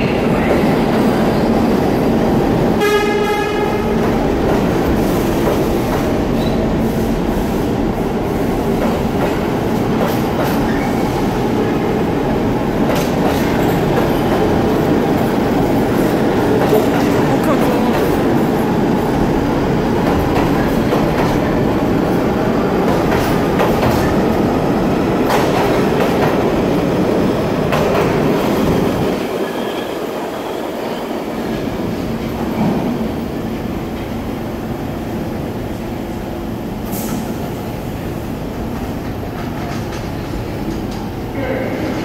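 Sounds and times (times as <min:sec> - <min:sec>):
subway train rumbling past: 0:00.0 - 0:42.0.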